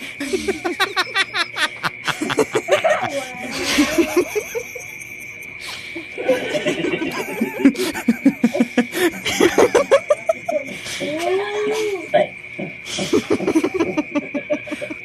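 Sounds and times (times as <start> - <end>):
man laughing heartily: 0.0 - 11.0, 12.9 - 15.0
high-pitched whine: 0.0 - 12.6.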